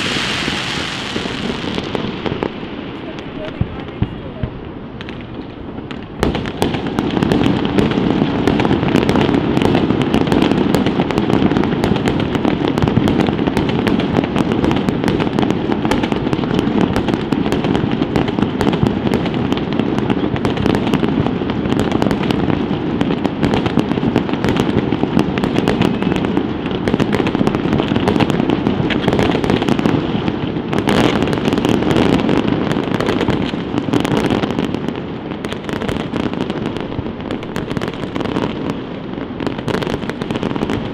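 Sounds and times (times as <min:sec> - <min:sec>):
fireworks bangs rumbling: 0:00.0 - 0:40.9
fireworks crackling: 0:00.0 - 0:40.9.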